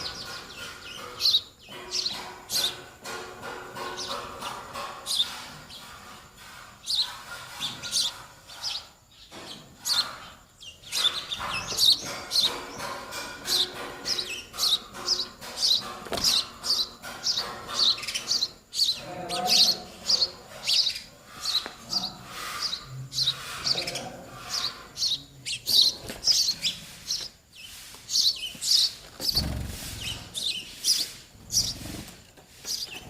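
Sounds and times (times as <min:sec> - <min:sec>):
baby birds chirping: 0:00.0 - 0:33.0.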